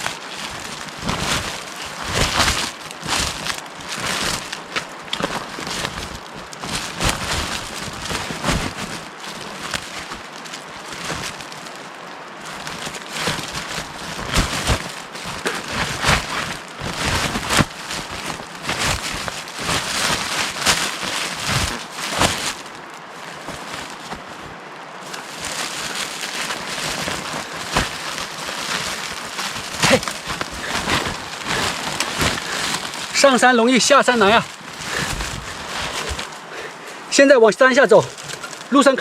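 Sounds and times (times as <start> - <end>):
twigs snapping: 0.0 - 36.7, 37.9 - 39.0
footsteps crunching through dry leaves: 0.0 - 39.0.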